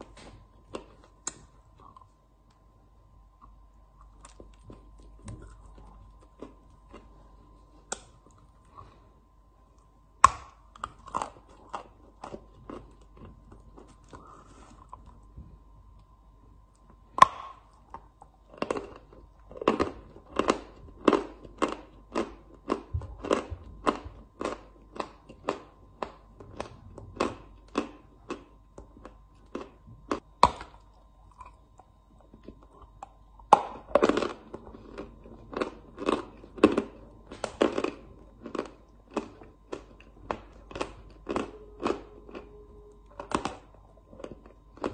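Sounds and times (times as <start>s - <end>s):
chalk crunching when chewed: 3.4s - 9.0s, 9.7s - 15.3s, 16.8s - 44.9s.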